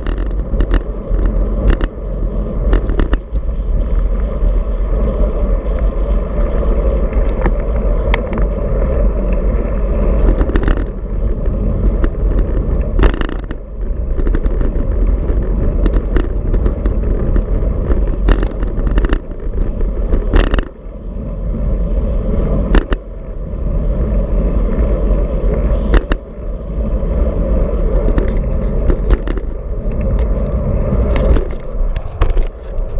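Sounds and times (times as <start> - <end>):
bike knocking and rattling on bumps: 0.0 - 21.4, 22.4 - 23.5, 24.2 - 32.9
wind buffeting microphone: 0.0 - 32.9.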